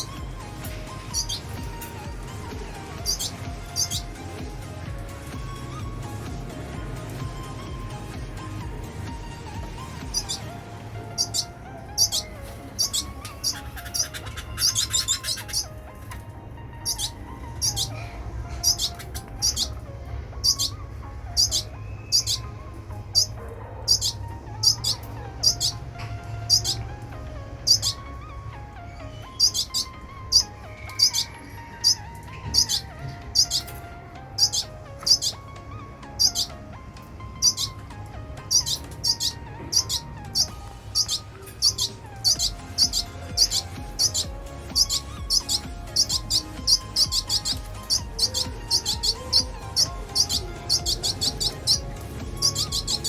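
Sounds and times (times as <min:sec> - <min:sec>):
birds giving short high chirps: 0:00.0 - 0:53.0
soft background music: 0:00.0 - 0:53.0.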